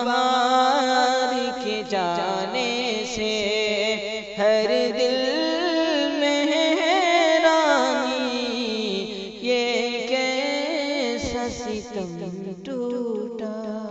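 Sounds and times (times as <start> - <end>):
man singing elegy: 0.0 - 13.9.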